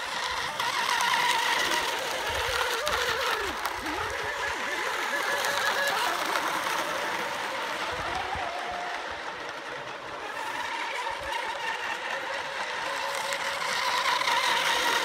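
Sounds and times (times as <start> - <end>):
electric boat motors whining: 0.0 - 15.0.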